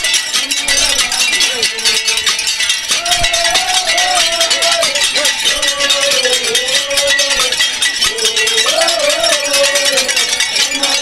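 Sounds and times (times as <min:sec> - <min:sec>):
crowd singing a chant: 0:00.0 - 0:11.0
fast percussion clatter: 0:00.0 - 0:11.0.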